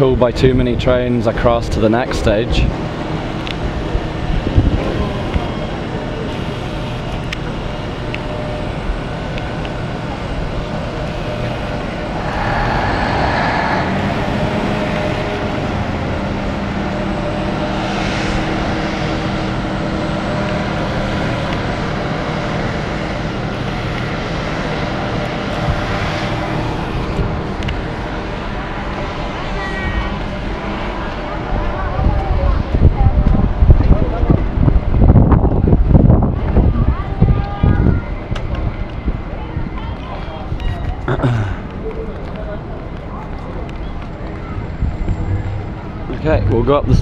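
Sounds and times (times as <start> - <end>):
low mechanical rumble with hum: 0.0 - 39.9, 43.5 - 47.0.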